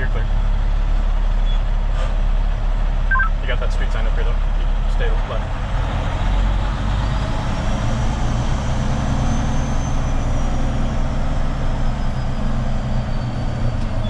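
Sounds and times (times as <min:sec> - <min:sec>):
road noise: 0:00.0 - 0:14.0
truck diesel engine running: 0:00.0 - 0:14.0.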